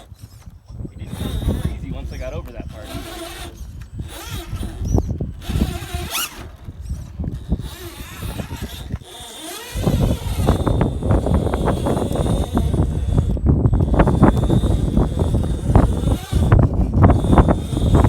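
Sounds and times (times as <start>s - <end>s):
rc car motor and gear whine: 0.0s - 18.0s.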